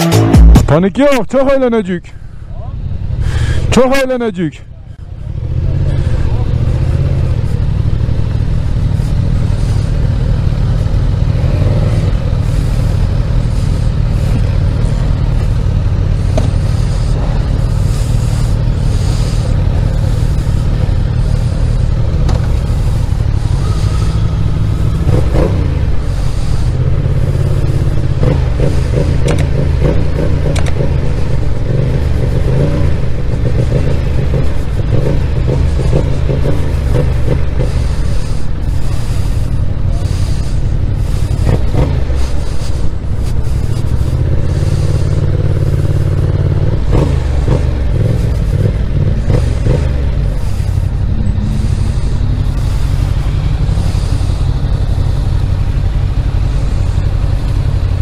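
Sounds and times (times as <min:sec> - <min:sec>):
motorcycle engine revving: 0:00.0 - 0:01.6, 0:02.5 - 0:58.0
deep exhaust rumble: 0:00.0 - 0:58.0
motorcycle engines running: 0:00.0 - 0:58.0.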